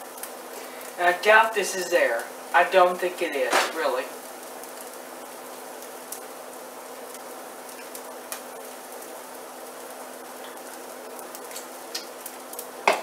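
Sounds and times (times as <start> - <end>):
stovetop sizzling hiss: 0.0 - 13.0.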